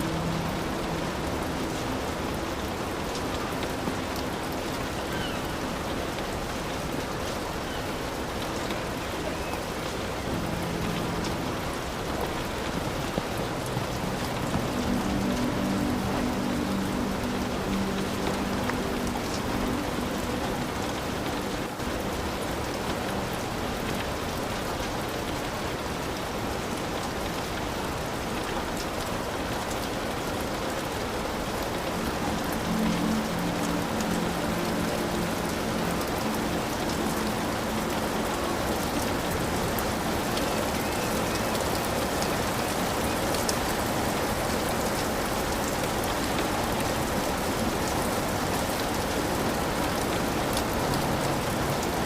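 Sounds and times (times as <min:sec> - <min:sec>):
heavy rain on a hut: 0:00.0 - 0:52.0.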